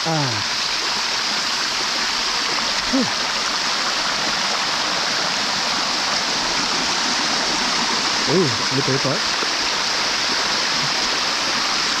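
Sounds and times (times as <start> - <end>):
waterfall running over rocks: 0.0 - 12.0.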